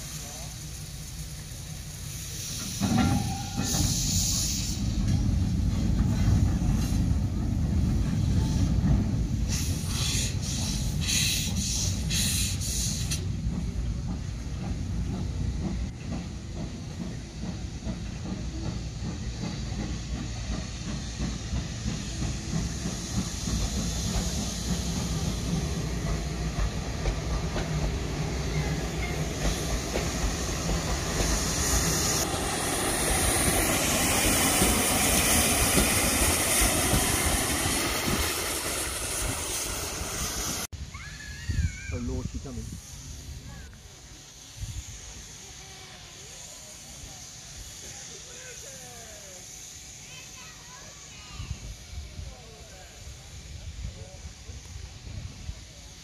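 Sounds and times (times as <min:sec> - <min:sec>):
steam locomotive exhaust beats: 0:00.0 - 0:40.7, 0:42.3 - 0:56.0
steam hissing: 0:00.0 - 0:56.0
steam locomotive rumble: 0:00.0 - 0:56.0.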